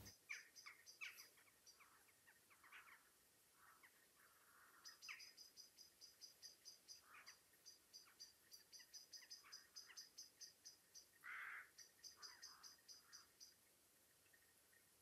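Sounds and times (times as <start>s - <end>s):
lower bird calls: 0.0s - 13.6s.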